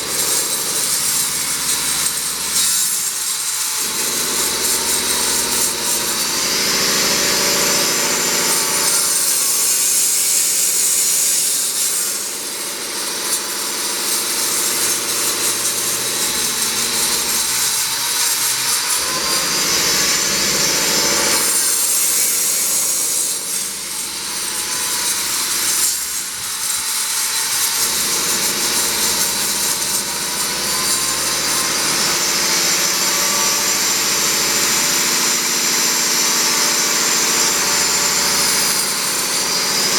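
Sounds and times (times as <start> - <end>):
angle grinder cutting brick: 0.0 - 39.9.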